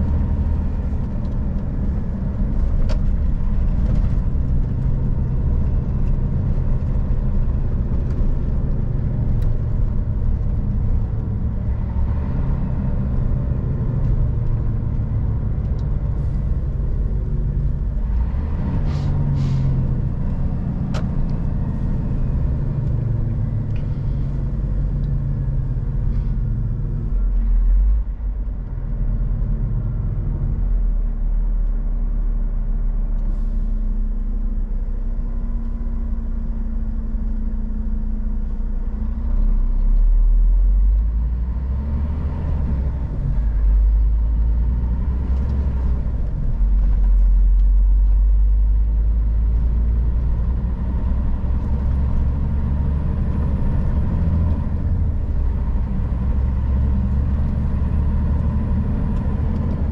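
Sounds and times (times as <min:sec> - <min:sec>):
truck diesel engine rumbling: 0:00.0 - 0:59.9.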